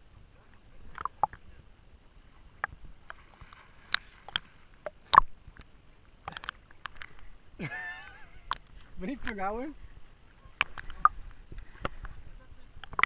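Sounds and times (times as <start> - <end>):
water splashing against camera: 0.0 - 13.0.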